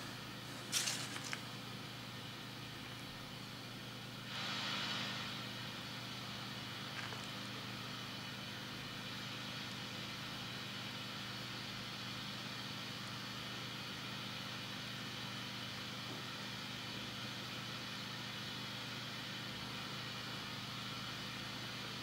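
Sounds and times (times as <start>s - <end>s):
amplifier hum and hiss: 0.0s - 22.0s.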